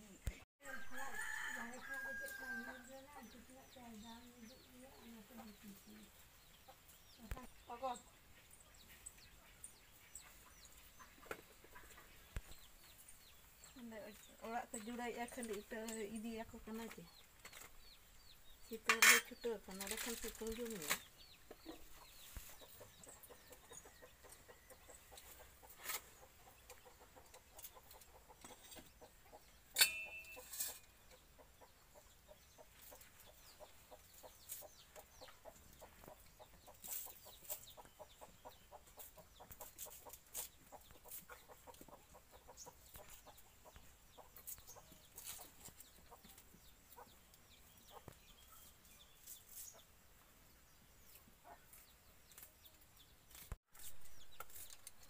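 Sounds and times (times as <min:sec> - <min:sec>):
chickens clucking: 0:03.4 - 0:17.8, 0:18.8 - 0:55.0.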